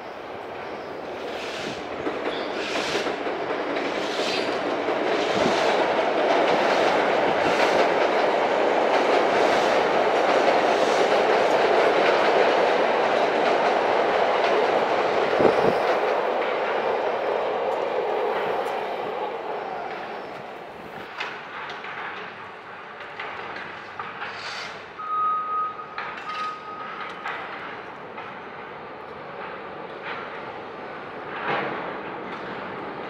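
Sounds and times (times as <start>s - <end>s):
train wheels on rail: 0.0s - 33.0s
wheels clacking over rail joints: 0.4s - 25.0s, 25.8s - 33.0s.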